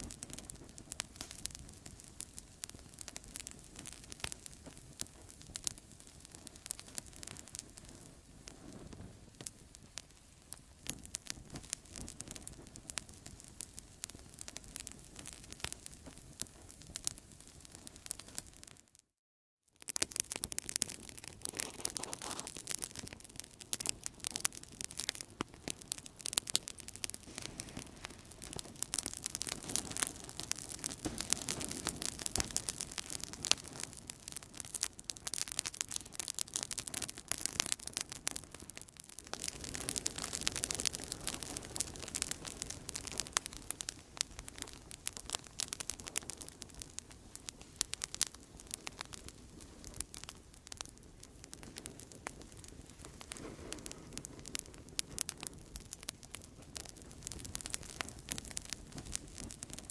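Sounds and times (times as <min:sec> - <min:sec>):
soft hiss of fire: 0:00.0 - 0:18.5, 0:19.9 - 0:59.9
campfire crackling: 0:00.0 - 0:18.8, 0:19.8 - 0:59.9.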